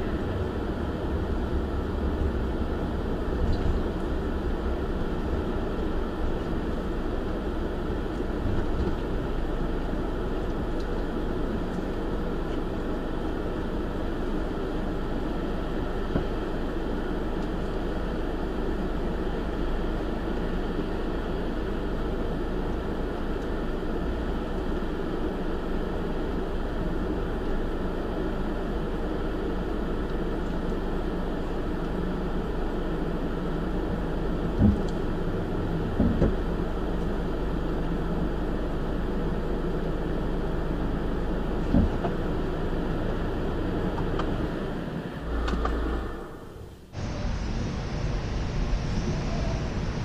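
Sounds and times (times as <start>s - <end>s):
vehicle engine and rolling noise: 0.0s - 50.0s.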